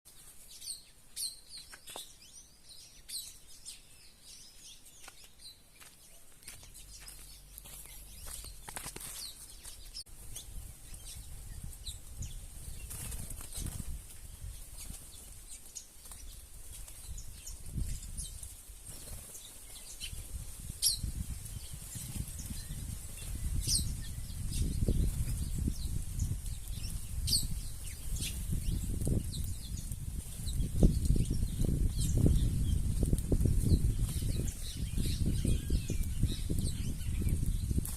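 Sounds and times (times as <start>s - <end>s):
birds chirping: 0.1s - 37.9s.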